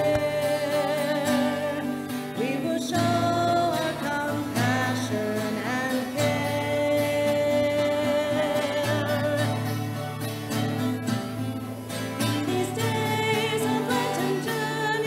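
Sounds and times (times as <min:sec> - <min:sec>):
person singing a hymn: 0:00.0 - 0:10.2, 0:12.2 - 0:15.0
acoustic guitar: 0:00.0 - 0:15.0.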